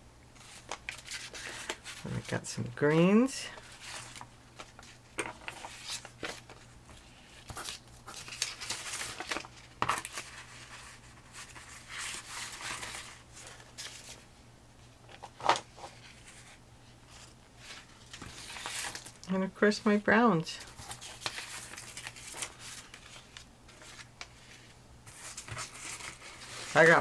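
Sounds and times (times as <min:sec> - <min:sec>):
paper sheets rustling: 0:00.4 - 0:14.2, 0:15.1 - 0:19.2, 0:20.6 - 0:27.0.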